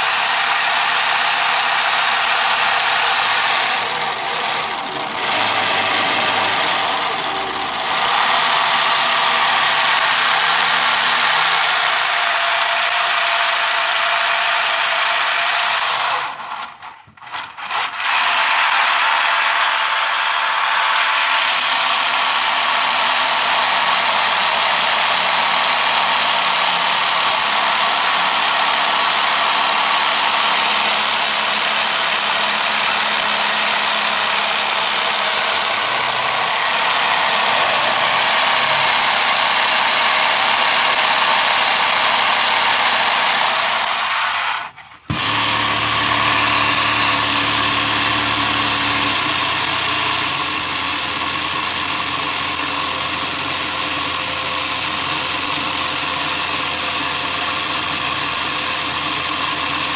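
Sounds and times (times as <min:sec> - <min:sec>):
plastic engine model clatter and whir: 0:00.0 - 0:59.9.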